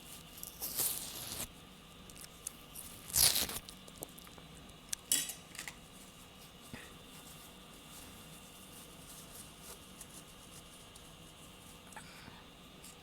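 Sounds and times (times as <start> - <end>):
freezer frost crunching: 0.0 - 12.0.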